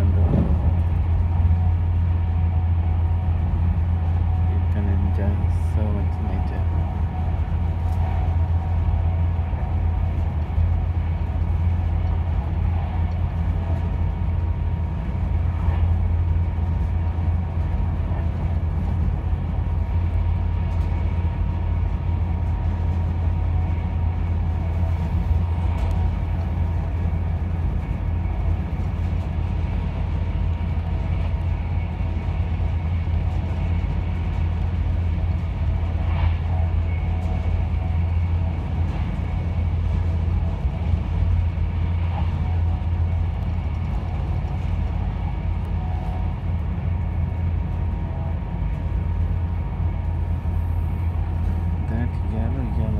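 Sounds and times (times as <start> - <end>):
faint steady whine: 0.0 - 52.9
train rumble inside carriage: 0.0 - 52.9.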